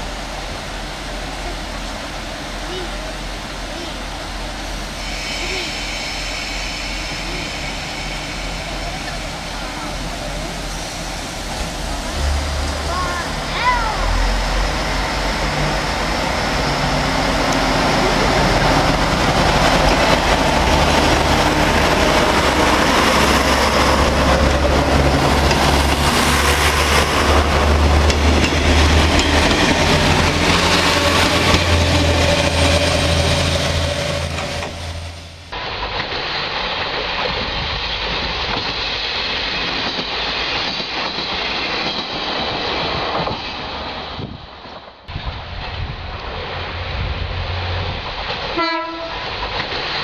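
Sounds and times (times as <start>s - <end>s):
rushing rail noise: 0.0s - 50.0s.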